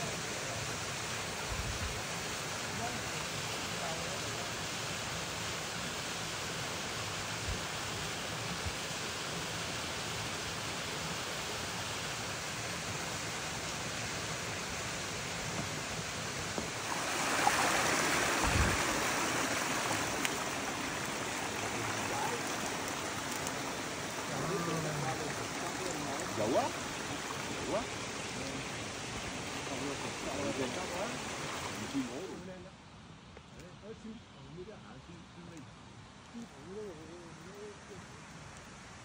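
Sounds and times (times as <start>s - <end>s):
stream rushing over rocks: 0.0s - 32.5s.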